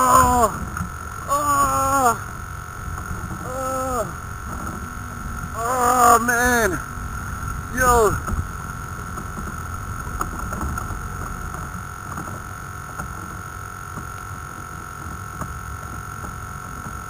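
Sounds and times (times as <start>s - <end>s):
steady high hum: 0.0s - 17.0s
wind rumbling on microphone: 0.0s - 17.0s.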